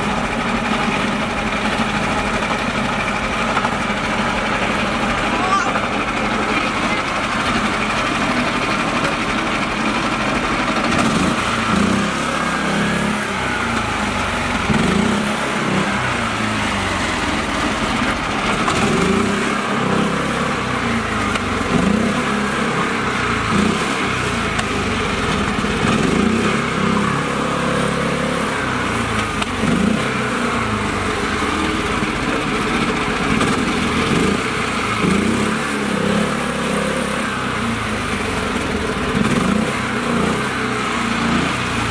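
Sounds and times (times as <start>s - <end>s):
small tractor engine under load: 0.0s - 41.9s
tractor churning through mud: 0.0s - 41.9s.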